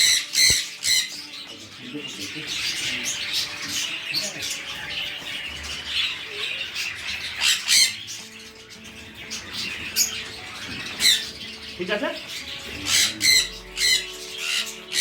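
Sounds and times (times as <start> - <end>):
parrots chattering: 0.0 - 15.0
parrots squawking: 0.0 - 15.0.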